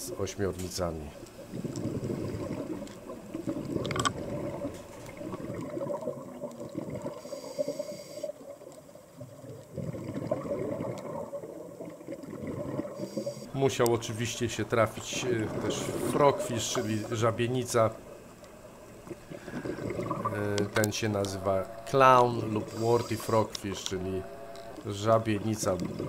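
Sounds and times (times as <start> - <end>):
diver's bubbles gurgling underwater: 1.3 - 7.3, 8.4 - 26.0.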